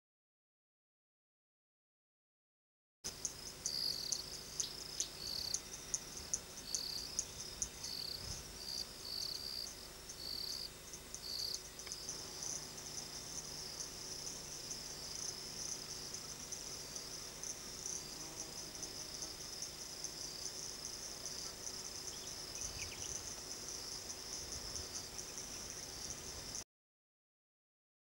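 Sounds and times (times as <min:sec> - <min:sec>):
insects chirping: 0:03.1 - 0:26.6.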